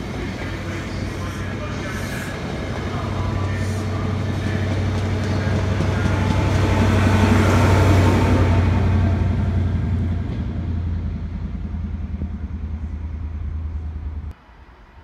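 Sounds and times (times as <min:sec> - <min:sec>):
train rumbling past on rails: 0:00.0 - 0:15.0.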